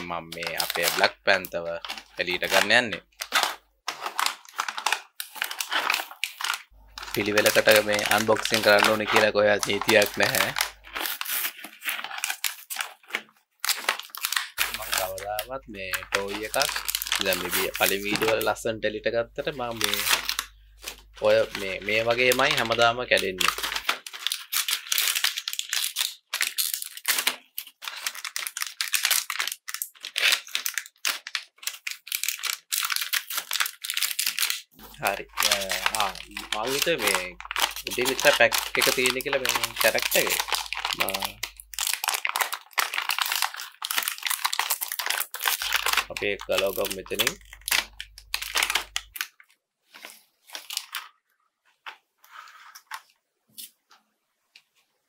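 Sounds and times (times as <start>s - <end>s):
plastic packaging crinkling and tearing: 0.0s - 53.7s.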